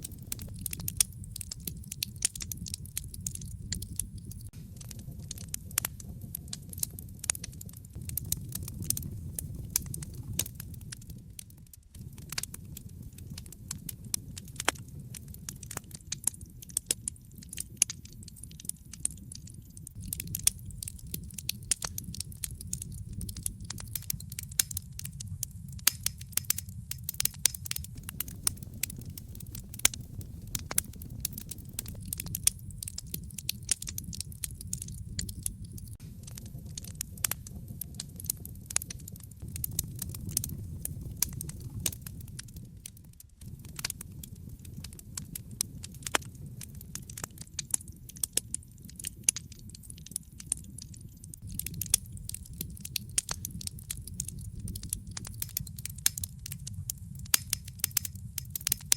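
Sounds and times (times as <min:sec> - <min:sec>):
fire crackling in a fireplace: 0:00.0 - 0:58.9.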